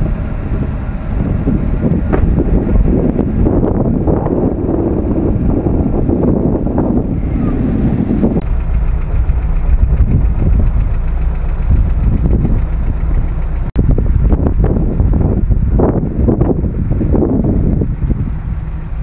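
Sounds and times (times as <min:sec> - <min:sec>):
vehicle engines idling: 0:00.0 - 0:19.0
wind rumbling on microphone: 0:00.0 - 0:19.0.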